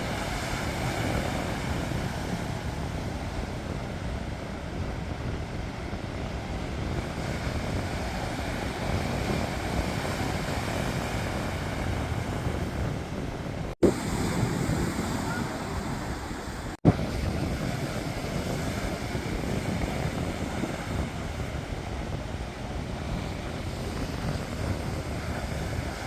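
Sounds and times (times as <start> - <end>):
sea waves washing on shore: 0.0 - 26.0
wind rumbling on microphone: 0.0 - 26.0.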